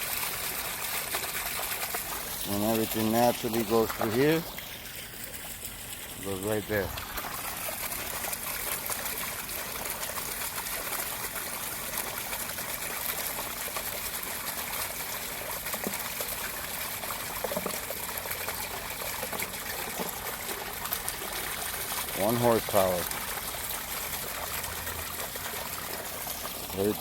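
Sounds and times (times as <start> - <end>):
water flowing from drain: 0.0 - 27.0.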